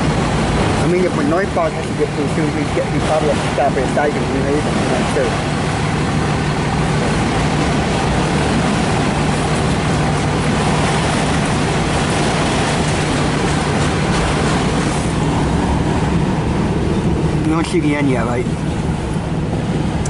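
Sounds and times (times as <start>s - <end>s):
steel train wheels on rails: 0.0s - 17.8s
constant low hum: 0.0s - 20.0s.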